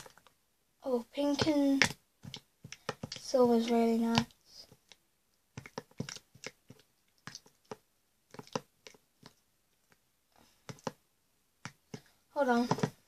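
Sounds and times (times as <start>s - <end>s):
plastic tube tapping and shaking: 1.3s - 10.0s, 10.6s - 11.0s, 11.6s - 13.0s.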